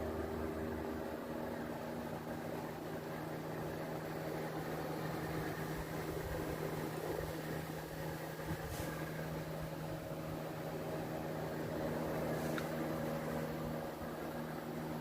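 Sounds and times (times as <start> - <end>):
air conditioner fan noise: 0.0 - 15.0
air conditioner hum: 0.0 - 15.0.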